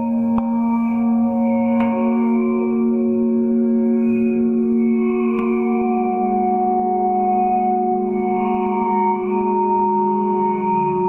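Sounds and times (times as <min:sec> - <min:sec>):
ambient singing bowl tones: 0:00.0 - 0:11.0.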